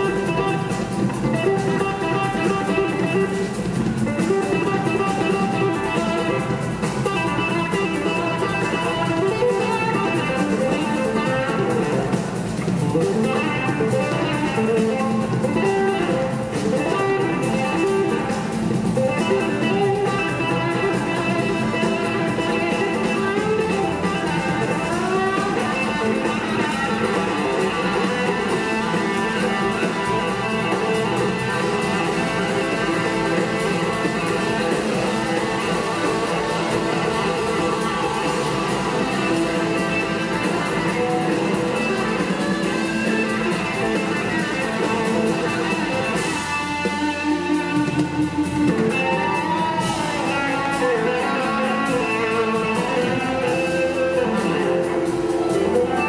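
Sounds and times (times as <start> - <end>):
bass guitar: 0.0 - 56.0
drum kit: 0.0 - 56.0
electric guitar: 0.0 - 56.0
keyboards: 0.0 - 56.0.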